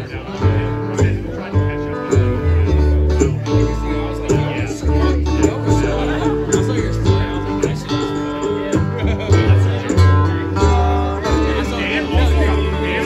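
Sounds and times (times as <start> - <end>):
mandolin: 0.0 - 13.0
plucked upright bass: 0.0 - 13.0
strummed acoustic guitars: 0.0 - 13.0.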